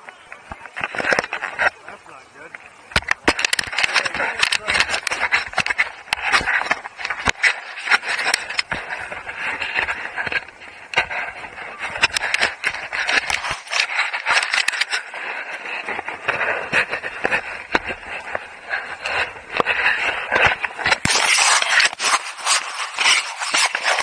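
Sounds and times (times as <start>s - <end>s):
sharp clicks and knocks: 0.0s - 24.0s
skis scraping over snow: 0.0s - 24.0s.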